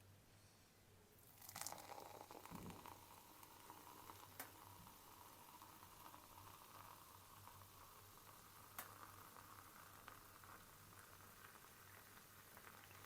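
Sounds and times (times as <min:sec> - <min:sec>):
soda fizzing in a glass: 0:01.2 - 0:13.0.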